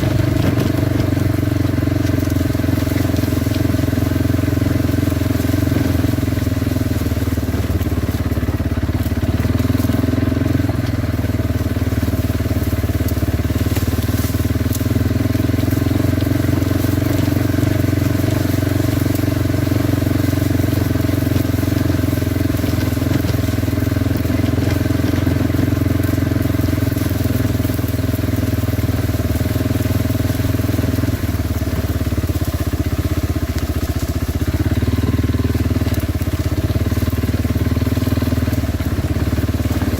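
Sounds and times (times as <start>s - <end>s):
quad bike engine running: 0.0s - 39.9s
rough riding noise: 0.0s - 39.9s.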